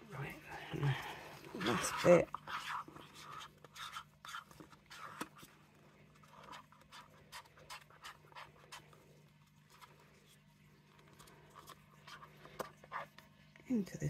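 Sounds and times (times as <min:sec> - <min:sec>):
plastic cup scratching and tapping: 0:01.4 - 0:13.3.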